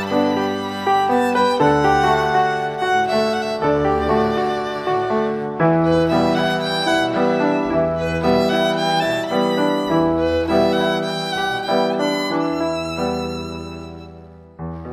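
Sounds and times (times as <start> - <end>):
fiddle melody: 0.0 - 14.9
lower musical accompaniment: 0.0 - 14.9.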